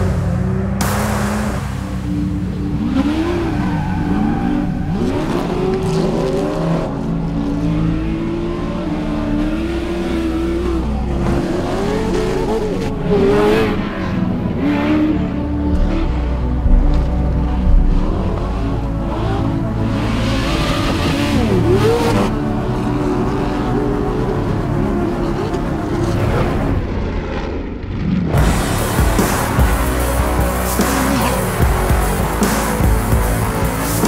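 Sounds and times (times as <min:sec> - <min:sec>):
race engines revving hard: 0:00.0 - 0:26.8, 0:27.9 - 0:34.0.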